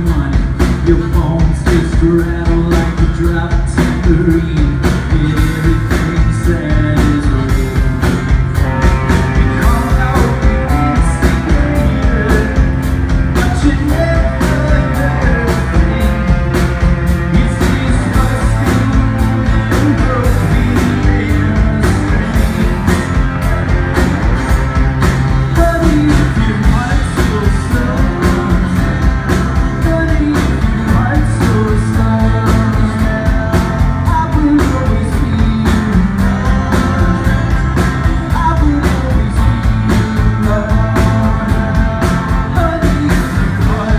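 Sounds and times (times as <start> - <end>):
bass guitar: 0.0 - 43.9
drums: 0.0 - 43.9
electric guitar: 0.0 - 43.9.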